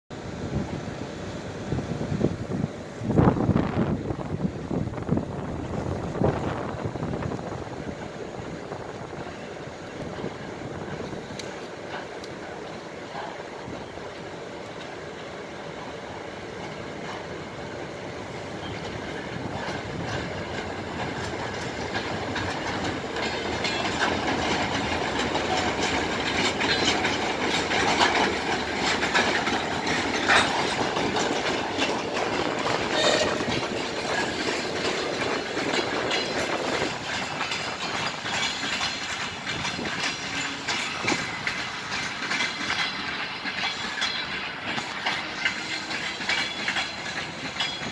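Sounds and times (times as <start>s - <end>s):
electric locomotive pulling out: 0.3s - 47.9s
wheels clacking over rail joints: 2.2s - 47.9s.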